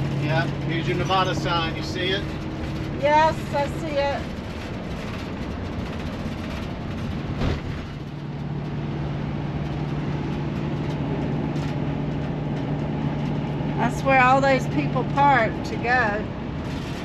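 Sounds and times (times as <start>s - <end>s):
low engine hum: 0.0s - 17.0s
road and engine noise: 0.0s - 17.0s.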